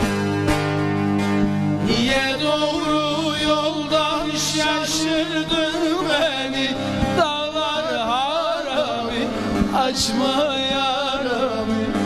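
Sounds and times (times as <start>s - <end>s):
long-necked lute strummed: 0.0s - 12.0s
man singing ornamented line: 1.8s - 12.0s.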